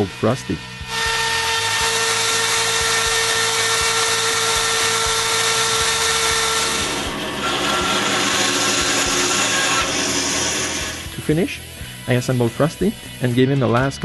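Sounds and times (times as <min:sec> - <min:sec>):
power tool cutting wood: 0:00.8 - 0:13.5.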